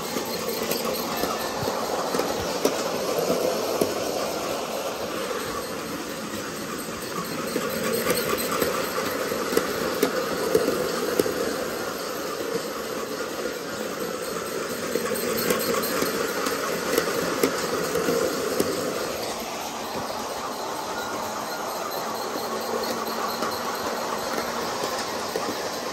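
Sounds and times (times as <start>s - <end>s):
model train motor whirring: 0.0s - 25.9s
wheels clicking over rail joints: 0.0s - 25.9s.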